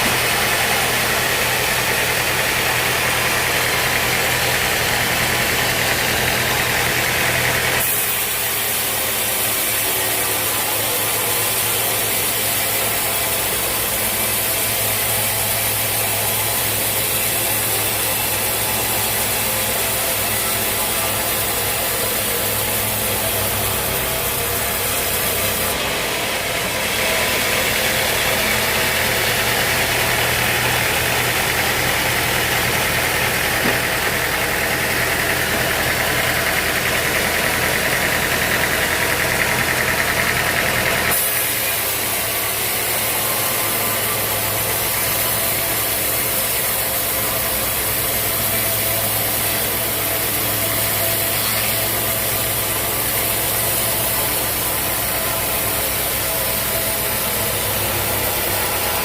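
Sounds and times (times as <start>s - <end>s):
saw whining through log: 0.0s - 59.0s
sawmill saw engine humming: 0.0s - 59.0s.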